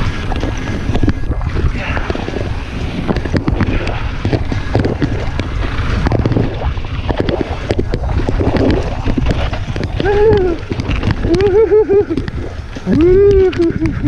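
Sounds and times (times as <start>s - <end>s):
bike rattling over trail: 0.0s - 14.0s
wind buffeting microphone: 0.0s - 14.0s.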